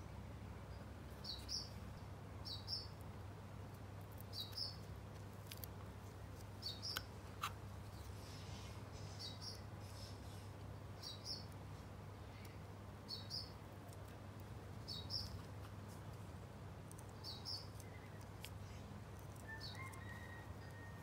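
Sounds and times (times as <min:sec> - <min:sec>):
low steady hum: 0:00.0 - 0:21.0
small bird chirping: 0:00.6 - 0:16.0, 0:16.8 - 0:21.0.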